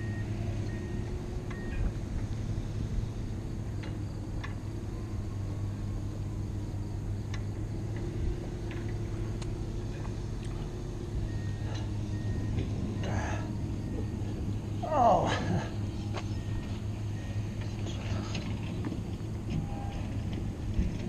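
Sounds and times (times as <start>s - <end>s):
heavy machinery humming: 0.0s - 21.0s.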